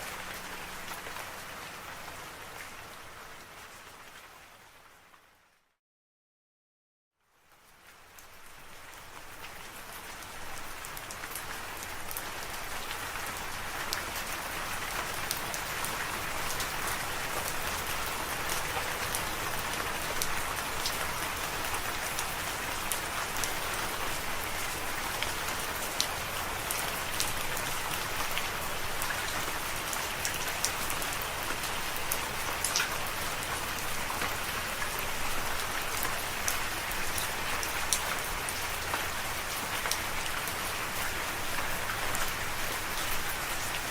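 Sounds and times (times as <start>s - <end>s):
steady rain falling: 0.0s - 5.7s, 7.2s - 43.9s.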